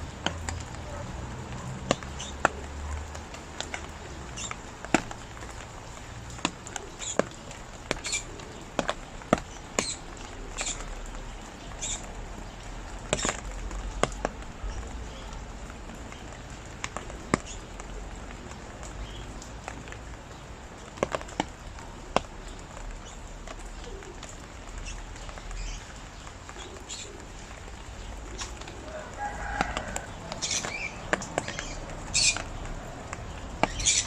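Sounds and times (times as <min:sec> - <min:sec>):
drips on a hard surface: 0:00.0 - 0:34.0
rain hissing: 0:00.0 - 0:34.0.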